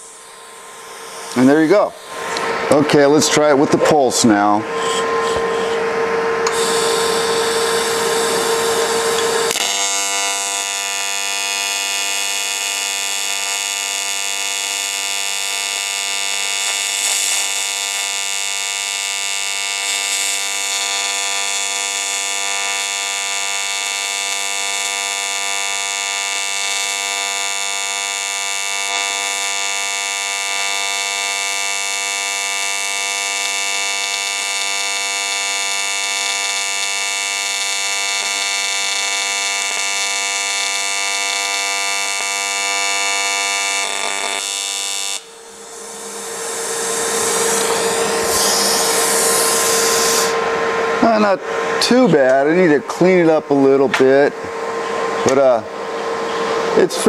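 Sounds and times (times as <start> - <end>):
arc welding hiss and buzz: 0.0 - 57.0.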